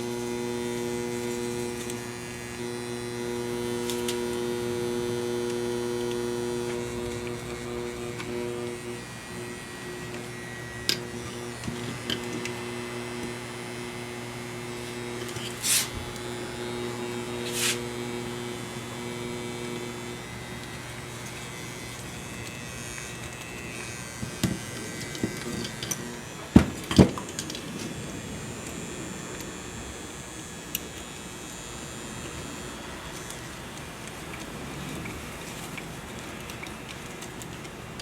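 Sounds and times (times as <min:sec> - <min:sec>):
transformer humming: 0:00.0 - 0:35.9.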